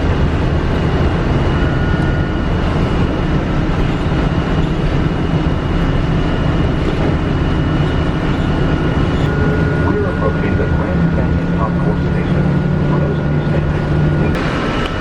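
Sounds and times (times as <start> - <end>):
thin steady whine: 0.0 - 15.0
train rumbling inside car: 0.0 - 15.0.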